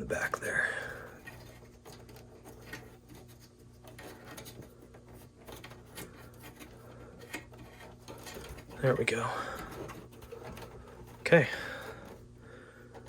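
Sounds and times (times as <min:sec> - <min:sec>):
cables rubbing and clicking: 0:00.0 - 0:13.0
faint steady hum: 0:00.0 - 0:13.0.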